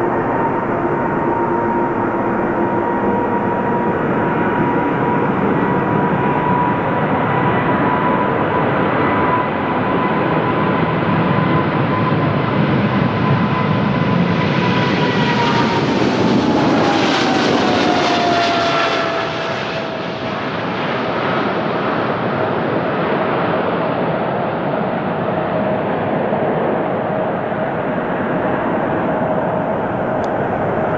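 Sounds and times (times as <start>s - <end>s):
airplane engines roaring: 0.0s - 30.9s
high jet engine whine: 0.0s - 30.9s.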